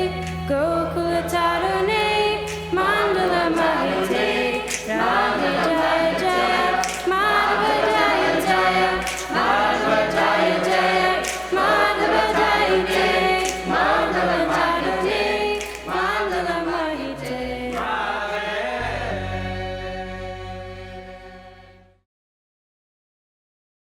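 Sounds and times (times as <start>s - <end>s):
choir singing devotional song: 0.0s - 22.0s.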